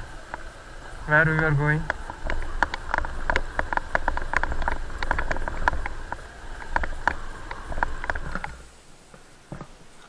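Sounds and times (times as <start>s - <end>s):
rapid light clicks: 0.0s - 8.8s
steady low rumble: 0.0s - 8.8s.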